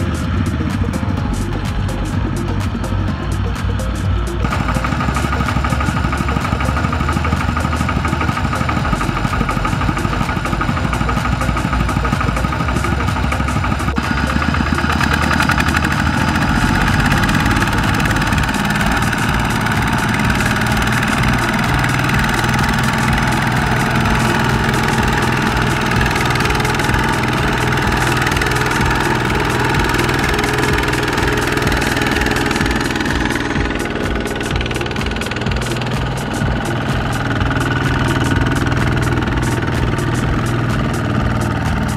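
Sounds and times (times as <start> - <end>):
diesel tractor engines knocking: 0.0 - 41.9.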